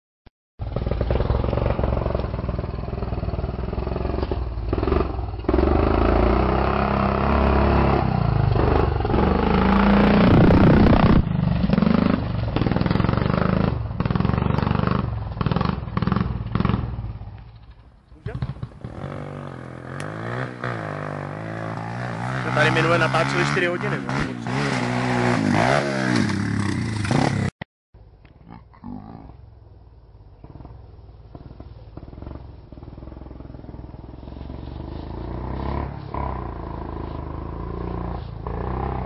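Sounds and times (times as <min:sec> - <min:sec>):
motorbike engine revving past: 0:00.6 - 0:17.4, 0:18.2 - 0:27.5, 0:30.4 - 0:39.0.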